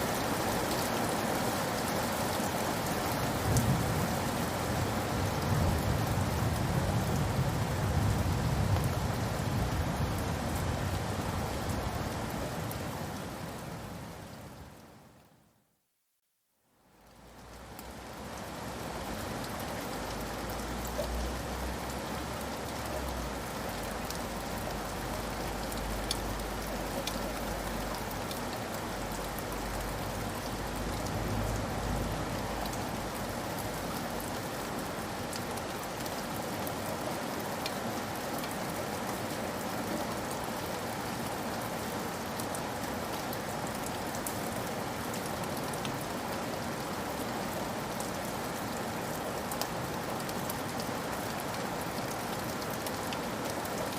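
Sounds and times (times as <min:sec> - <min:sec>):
rain pattering on a roof: 0:00.0 - 0:15.5, 0:16.7 - 0:53.9.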